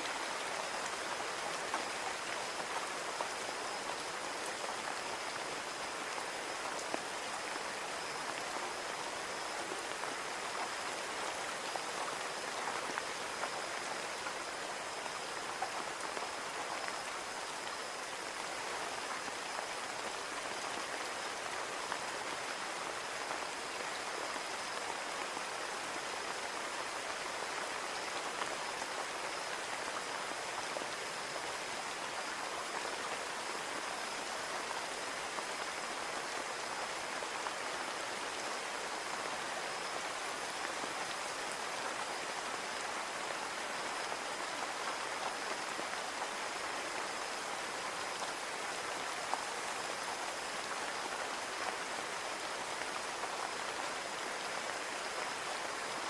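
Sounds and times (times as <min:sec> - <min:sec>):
rain on a window pane: 0:00.0 - 0:56.0.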